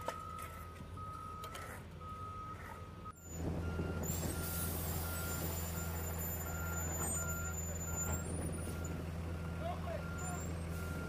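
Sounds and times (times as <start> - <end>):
diesel engine running: 0.0 - 11.0
reversing alarm beeping: 0.0 - 11.0.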